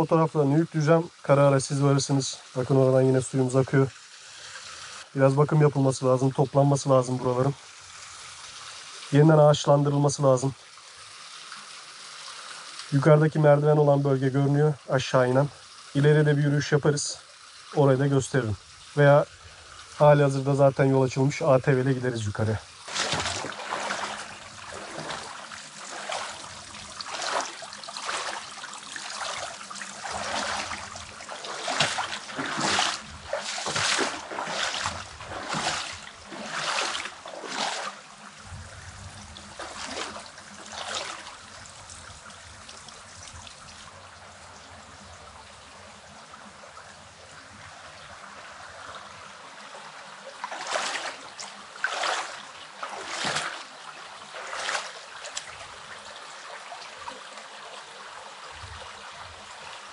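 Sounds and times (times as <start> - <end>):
stream water trickling over rocks: 0.0 - 59.9.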